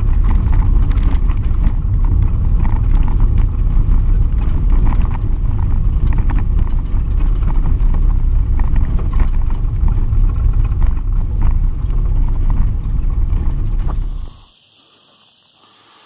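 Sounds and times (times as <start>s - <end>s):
vehicle engine rumble: 0.0s - 14.5s
gravel crackling under tyres: 0.0s - 14.6s.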